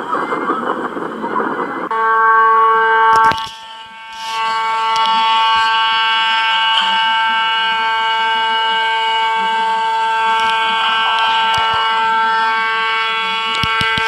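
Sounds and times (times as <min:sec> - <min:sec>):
steady alarm tone: 0:01.9 - 0:14.0.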